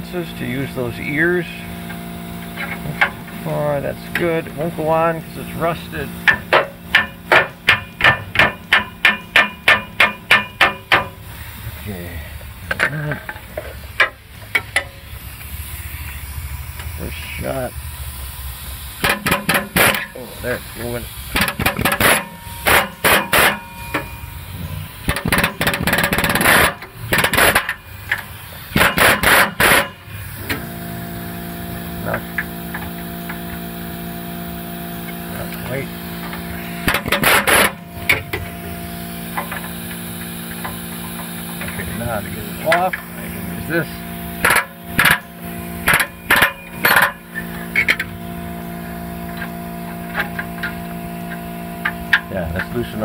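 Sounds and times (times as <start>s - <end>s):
steady hum: 0.0s - 53.0s
pneumatic air hammer blows: 0.2s - 53.0s.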